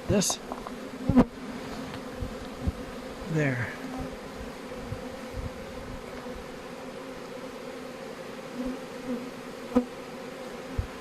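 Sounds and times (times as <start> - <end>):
bee swarm buzzing: 0.0 - 11.0.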